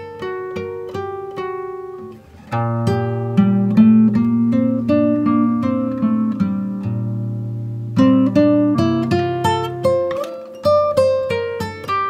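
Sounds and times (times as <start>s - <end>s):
plucked acoustic guitar melody: 0.0s - 12.0s.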